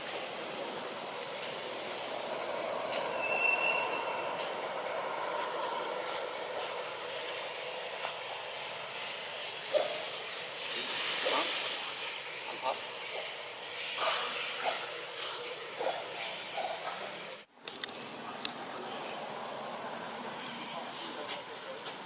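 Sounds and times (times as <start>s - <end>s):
hissing outdoor ambience: 0.0s - 22.0s.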